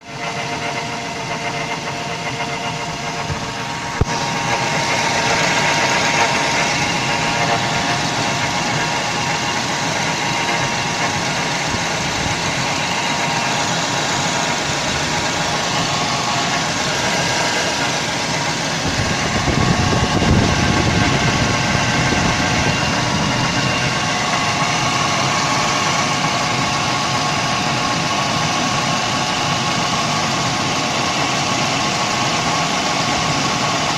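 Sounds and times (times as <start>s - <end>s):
car engine idling: 0.0s - 33.9s
drive-belt roller hum: 0.0s - 33.9s.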